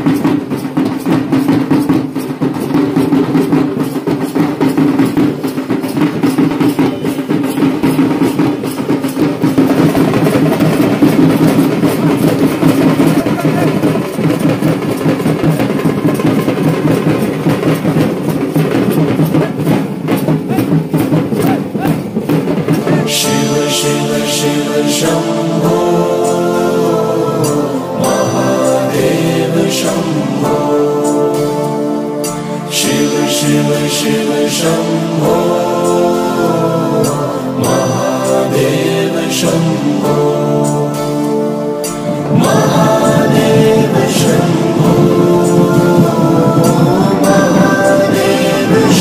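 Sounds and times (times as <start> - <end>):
chanted vocal: 0.0 - 22.0, 22.6 - 49.0
fast barrel drumming: 0.0 - 49.0
voices singing: 0.0 - 49.0.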